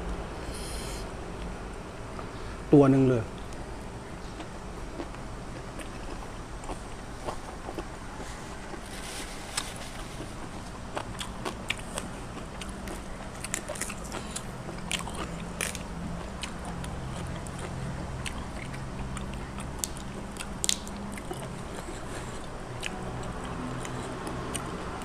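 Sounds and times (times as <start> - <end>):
person crunching bok choy: 4.2 - 25.0.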